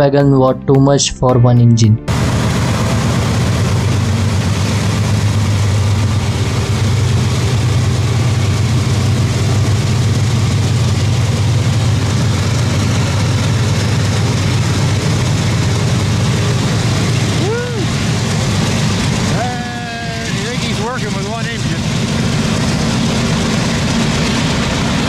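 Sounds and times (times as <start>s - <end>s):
locomotive engine drone: 2.0s - 25.0s
rushing noise: 2.1s - 25.0s.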